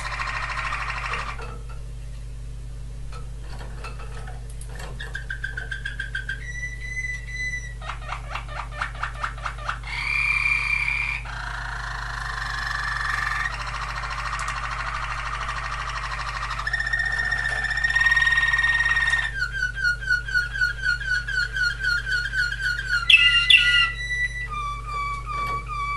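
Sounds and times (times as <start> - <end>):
canary singing: 0.0 - 1.6, 4.7 - 25.9.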